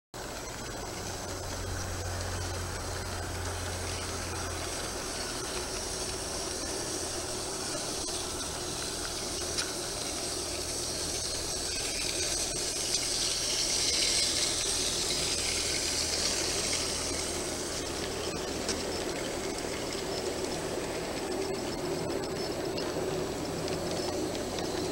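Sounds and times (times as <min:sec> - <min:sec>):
model train wheels on rail: 0:00.2 - 0:24.9.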